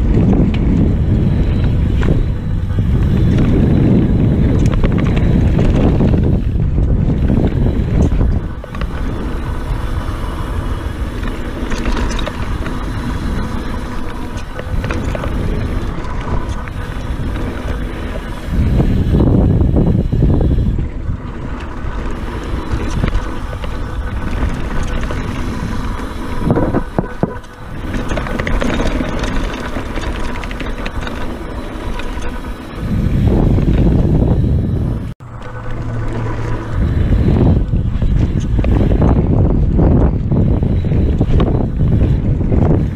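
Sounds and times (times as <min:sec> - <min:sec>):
bike clicks and rattles: 0:00.0 - 0:42.9
tyres rolling on dirt: 0:00.0 - 0:42.9
wind buffeting microphone: 0:00.0 - 0:42.9.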